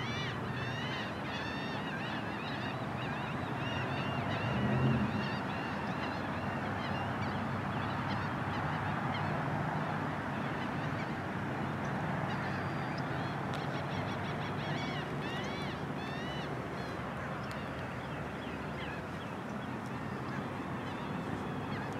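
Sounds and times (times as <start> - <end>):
flock of birds calling: 0.0 - 21.9.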